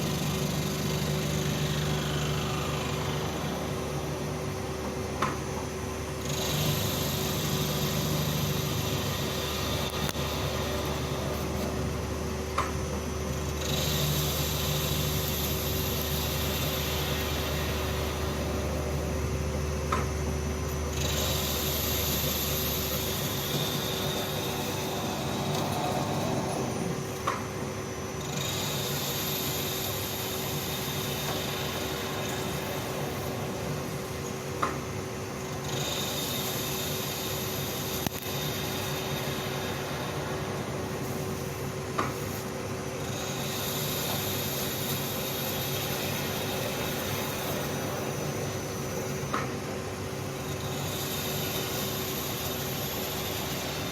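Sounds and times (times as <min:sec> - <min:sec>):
lathe cutting hiss: 0:00.0 - 0:53.9
machine hum: 0:00.0 - 0:53.9.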